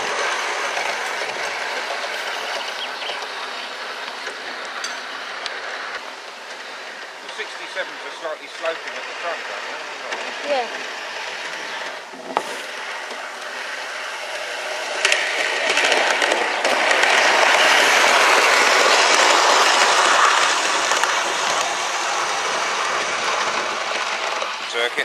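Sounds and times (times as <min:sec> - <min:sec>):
model train wheels clattering on rails: 0:00.0 - 0:25.0.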